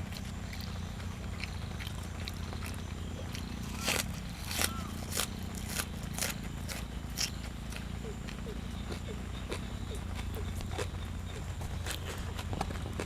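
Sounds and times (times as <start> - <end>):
person chewing crunchy food: 0.0 - 13.0
steady low hum: 0.0 - 13.0.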